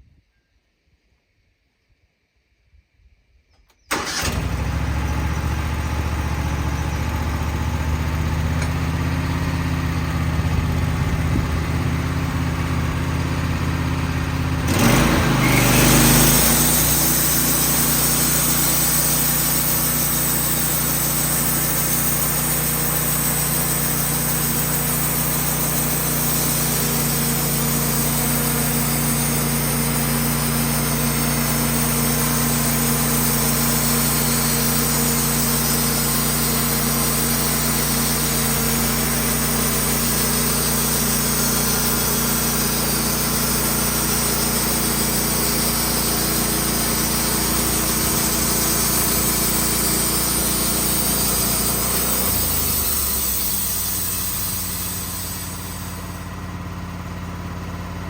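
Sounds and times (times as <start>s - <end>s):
sawmill engine running: 3.9s - 58.0s.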